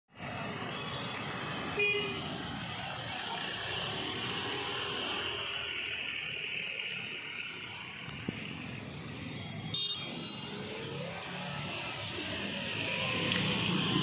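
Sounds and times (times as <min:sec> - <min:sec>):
road traffic: 0:00.1 - 0:14.0.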